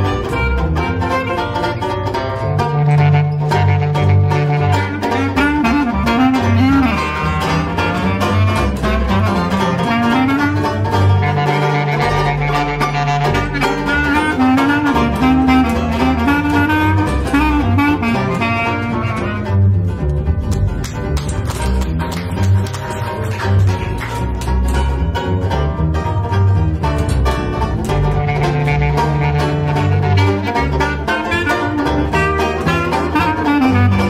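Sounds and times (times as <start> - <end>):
clarinet melody: 0.0 - 34.0
plucked double bass: 0.0 - 34.0
strummed banjo: 0.0 - 34.0.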